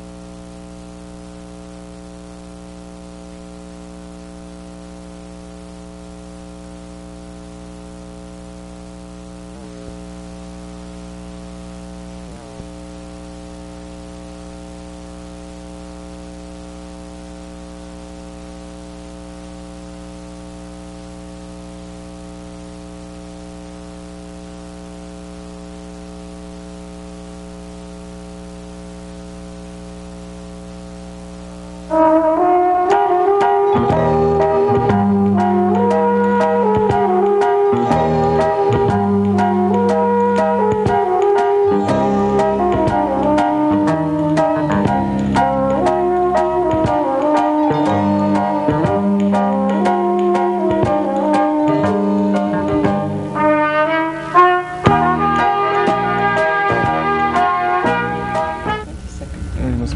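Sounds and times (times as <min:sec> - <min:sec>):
electrical mains hum with hiss: 0:00.0 - 0:59.9.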